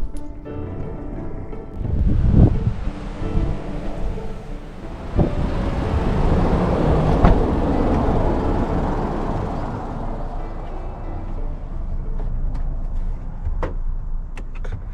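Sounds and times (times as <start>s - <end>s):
road and wind noise: 0.0s - 14.9s.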